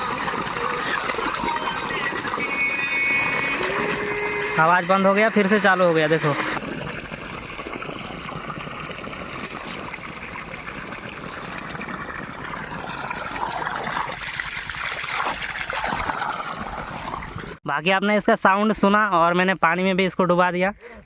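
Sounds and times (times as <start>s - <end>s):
water running and trickling: 0.0s - 17.6s.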